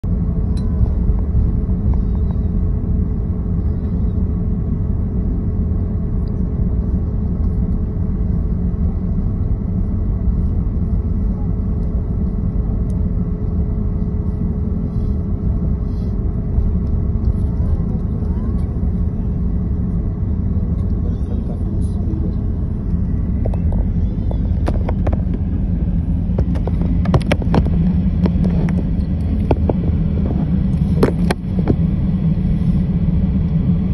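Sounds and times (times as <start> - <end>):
airliner cabin engine rumble: 0.0 - 33.9
faint steady hum: 0.0 - 33.9.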